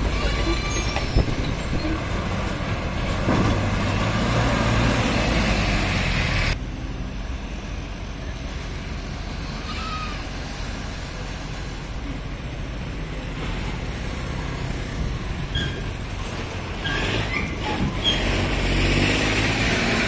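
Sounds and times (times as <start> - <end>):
distant traffic noise: 0.0 - 20.0
heavy trucks engine hum: 0.0 - 20.0.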